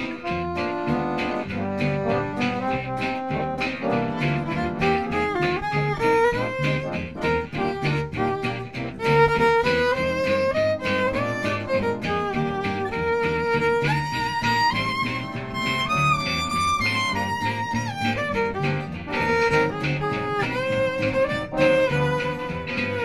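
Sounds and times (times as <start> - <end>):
acoustic guitars strumming: 0.0 - 23.0
upright bass: 0.0 - 23.0
violin melody with slides: 0.0 - 23.0.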